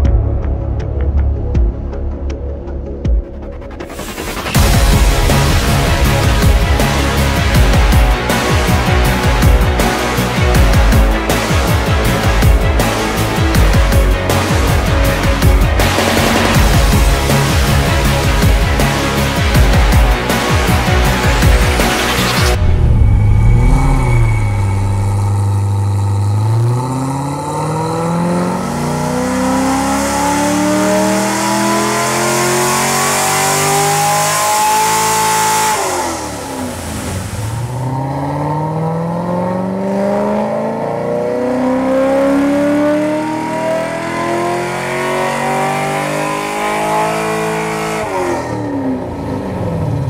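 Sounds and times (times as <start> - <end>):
car engine revving: 2.8 - 50.0.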